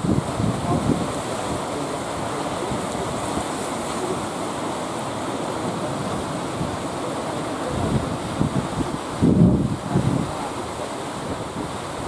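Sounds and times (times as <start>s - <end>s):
heavy surf: 0.0s - 12.0s
wind: 0.0s - 12.0s.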